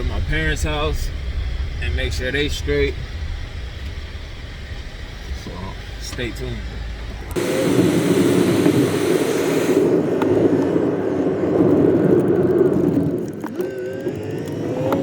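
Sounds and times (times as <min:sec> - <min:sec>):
faint rising whine: 0:00.0 - 0:15.0
truck engine and road drone: 0:00.0 - 0:15.0.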